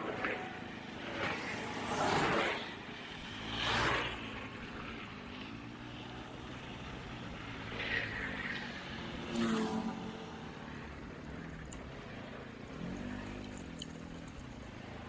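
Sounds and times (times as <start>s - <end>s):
road noise: 0.0s - 15.0s
vehicle engine: 0.0s - 15.0s
vehicles passing: 0.0s - 15.0s.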